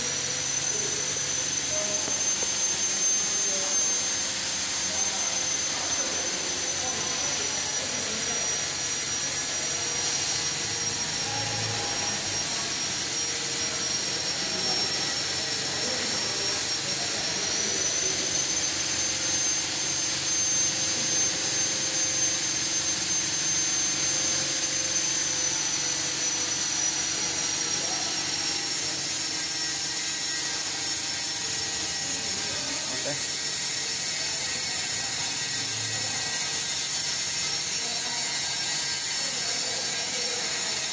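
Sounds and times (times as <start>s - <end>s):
laser cutting machine whirring hiss: 0.0s - 40.9s
thin high whine: 0.0s - 40.9s.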